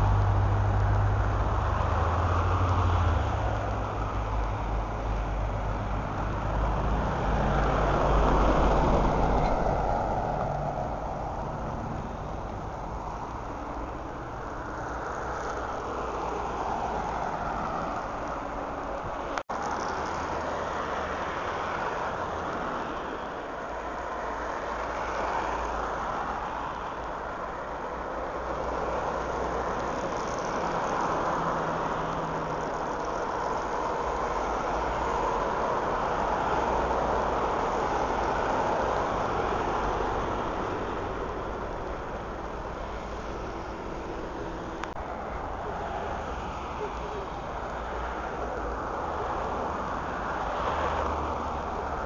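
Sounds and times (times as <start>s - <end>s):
vehicles driving past: 0.0s - 52.0s.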